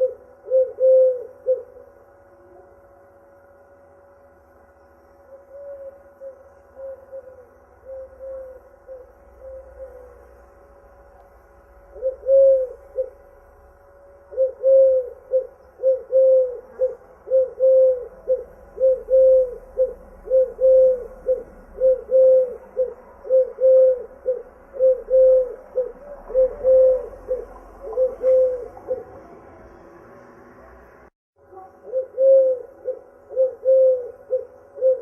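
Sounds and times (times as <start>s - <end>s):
dove cooing: 0.0s - 2.8s, 5.3s - 10.6s, 11.8s - 13.5s, 14.1s - 29.8s, 31.6s - 35.0s.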